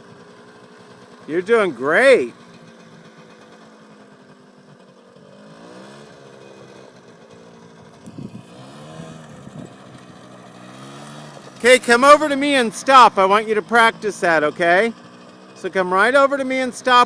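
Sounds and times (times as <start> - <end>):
two-stroke quad engine revving: 0.0 - 17.0.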